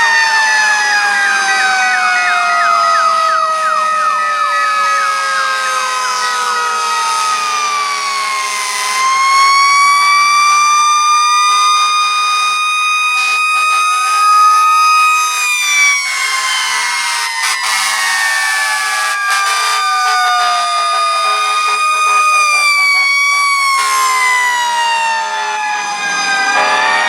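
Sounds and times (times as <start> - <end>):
fire truck sirens wailing: 0.0 - 27.0.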